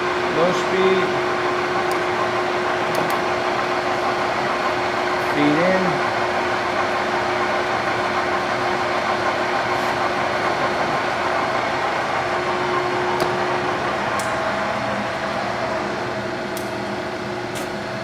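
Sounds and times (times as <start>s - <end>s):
lathe gear-drive hum: 0.0s - 18.0s.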